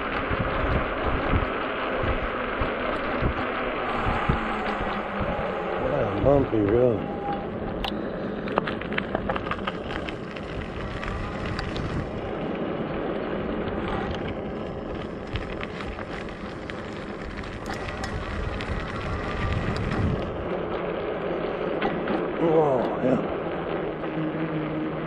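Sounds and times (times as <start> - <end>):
wind on microphone: 0.0 - 20.9
bike rattles and clicks: 0.0 - 25.0
tyre noise on pavement: 0.0 - 25.0.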